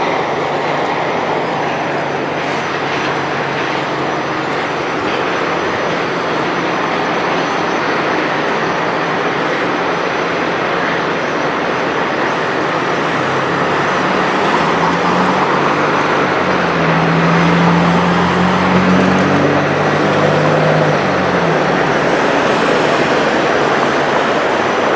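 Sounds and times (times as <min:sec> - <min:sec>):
city street traffic: 0:00.0 - 0:24.9
passing vehicle engine hum: 0:00.0 - 0:24.9.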